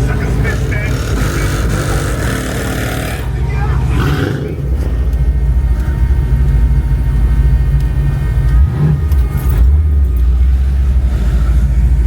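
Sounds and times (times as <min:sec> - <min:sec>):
car engine with loud exhaust: 0:00.0 - 0:12.0.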